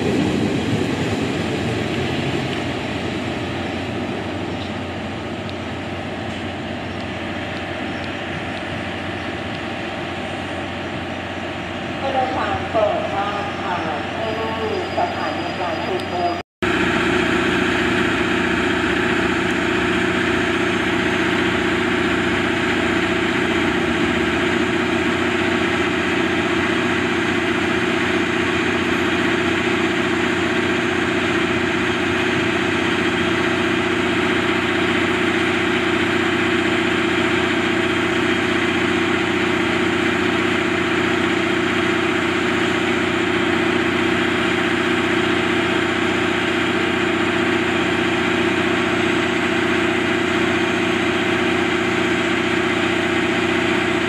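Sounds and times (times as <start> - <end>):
diesel train engine idling: 0.0 - 54.0.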